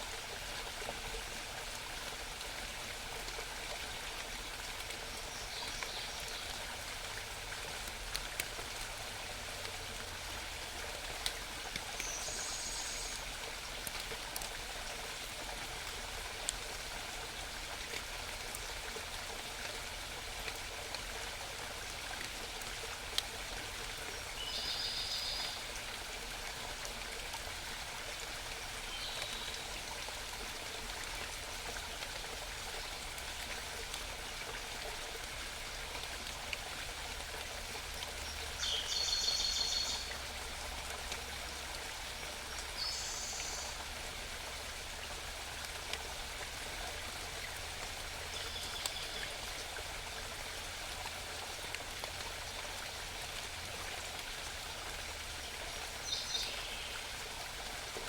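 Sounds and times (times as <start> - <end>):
babbling forest stream: 0.0 - 58.0.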